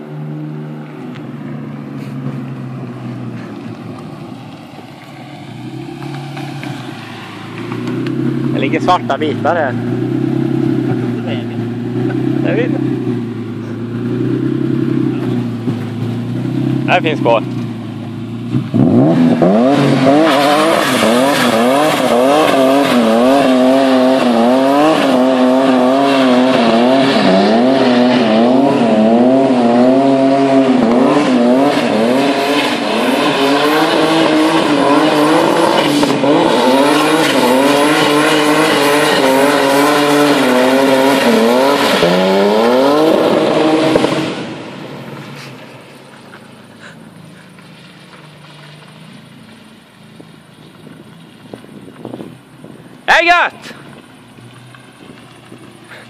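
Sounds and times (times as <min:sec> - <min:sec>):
car engine revving high: 0:00.0 - 0:45.7.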